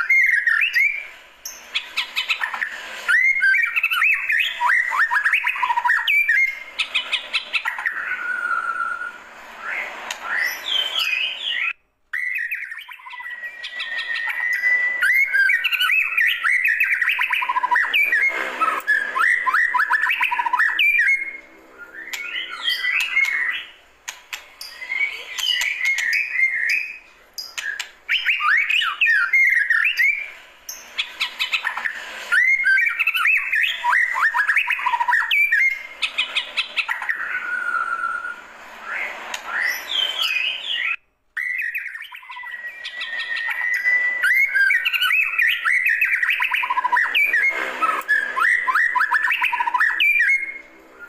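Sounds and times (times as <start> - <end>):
bird singing whistled phrases: 0.0 - 23.8, 24.6 - 51.0.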